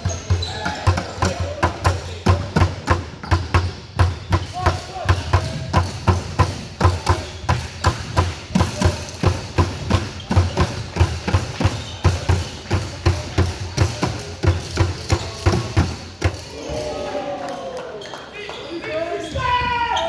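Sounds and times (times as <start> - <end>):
thumping drum beat: 0.0 - 16.6.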